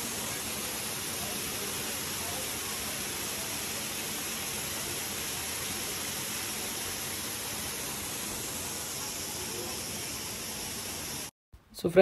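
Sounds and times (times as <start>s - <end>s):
water falling down waterfall: 0.0s - 11.3s.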